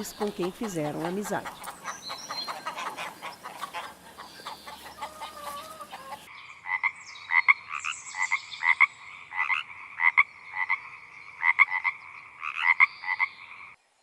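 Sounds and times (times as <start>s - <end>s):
frogs croaking: 0.0s - 13.8s
faint outdoor noise: 0.0s - 14.0s.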